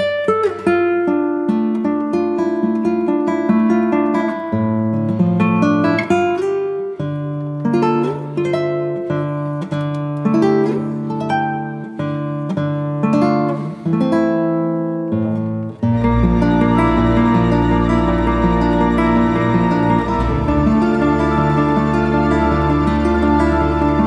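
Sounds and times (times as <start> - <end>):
acoustic guitar picked notes: 0.0 - 24.0.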